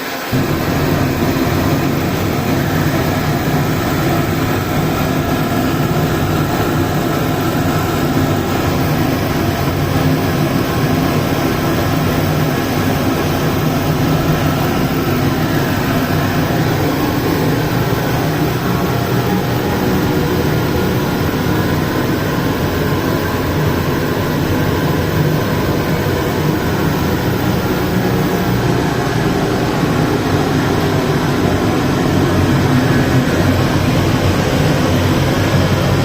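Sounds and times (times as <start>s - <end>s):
burner blower hiss: 0.0s - 36.0s
burner low rumble: 0.3s - 36.0s.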